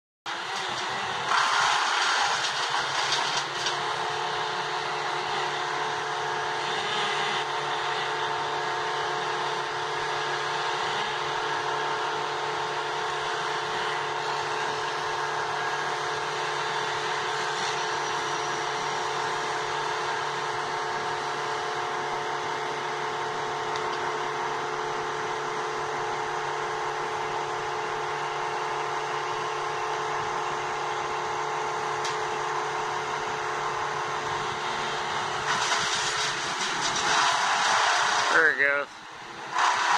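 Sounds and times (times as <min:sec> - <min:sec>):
crane engine droning: 0:00.3 - 0:39.9.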